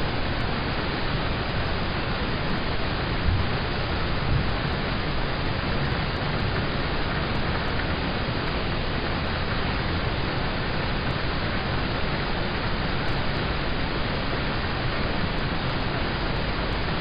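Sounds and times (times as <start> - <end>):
rain on a car roof from inside: 0.0 - 17.0.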